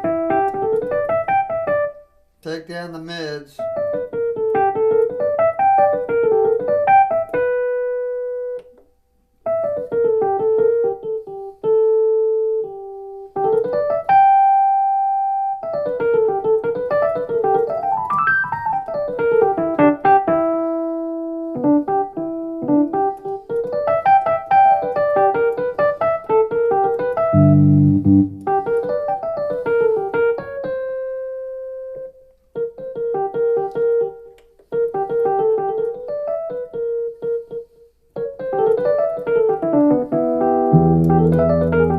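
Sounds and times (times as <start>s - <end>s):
bluesy electric piano: 0.0s - 2.1s, 3.0s - 41.9s.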